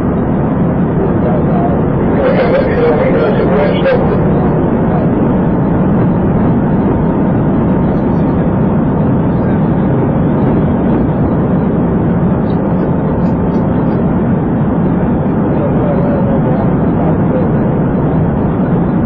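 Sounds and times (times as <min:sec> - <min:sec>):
car engine tyre and wind noise: 0:00.0 - 0:19.0.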